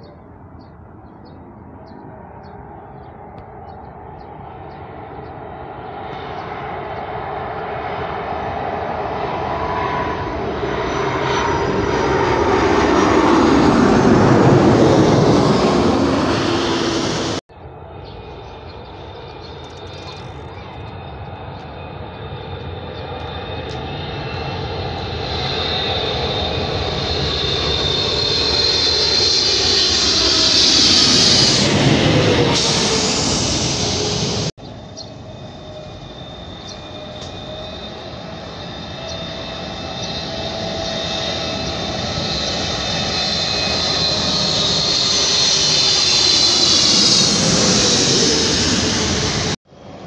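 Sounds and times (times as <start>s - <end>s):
jet passing overhead: 0.0s - 50.0s
twinjet engine whine: 0.0s - 50.0s.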